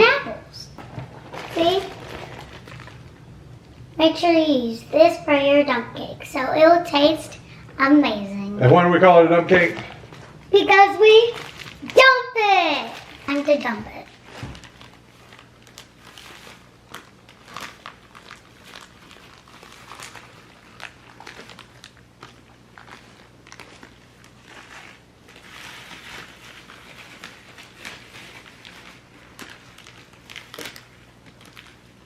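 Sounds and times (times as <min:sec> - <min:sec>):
faint steady hum: 0:00.0 - 0:32.0
plastic bag crinkling: 0:00.8 - 0:06.1, 0:09.4 - 0:32.0.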